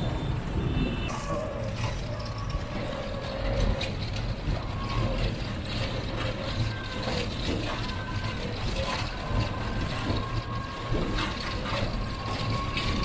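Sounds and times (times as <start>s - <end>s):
motorbikes: 0.0s - 13.0s
rickshaw ride rumble: 0.0s - 13.0s
traffic on cobbled road: 0.0s - 13.0s.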